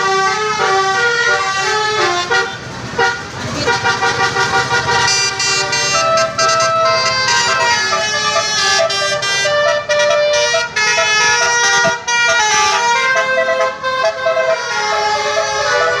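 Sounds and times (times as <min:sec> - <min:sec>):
multi-tone bus air horns playing tune: 0:00.0 - 0:16.0.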